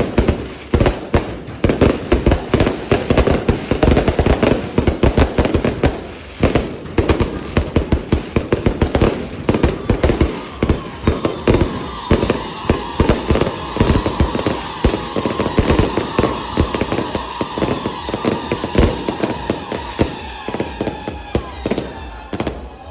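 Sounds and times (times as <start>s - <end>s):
fireworks banging: 0.0s - 22.9s.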